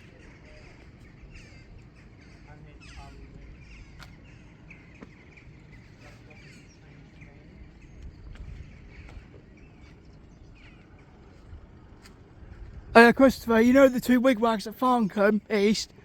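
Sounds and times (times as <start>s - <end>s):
birds chirping: 0.0s - 16.0s
low outdoor rumble: 0.0s - 16.0s.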